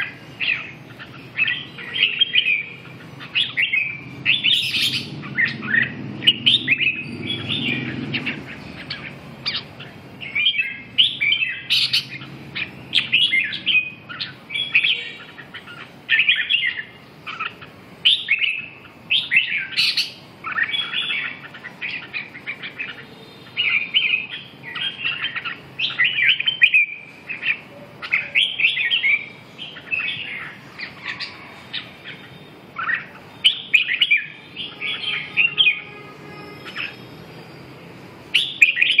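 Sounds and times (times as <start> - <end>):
birds singing and chirping: 0.0 - 39.0.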